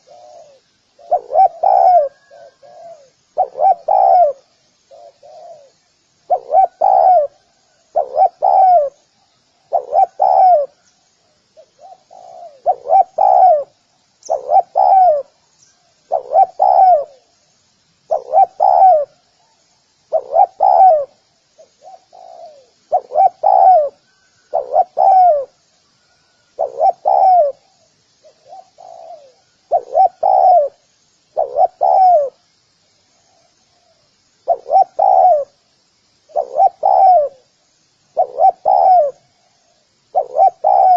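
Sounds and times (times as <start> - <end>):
dove cooing: 0.0 - 9.0, 9.6 - 10.9, 11.6 - 15.4, 16.0 - 17.3, 18.1 - 32.4, 33.8 - 35.6, 36.3 - 37.5, 38.1 - 40.9.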